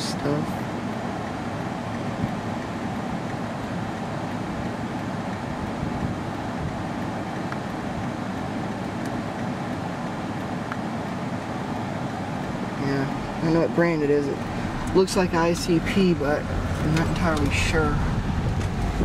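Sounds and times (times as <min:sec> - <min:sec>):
outdoor rumble and hiss: 0:00.0 - 0:19.0.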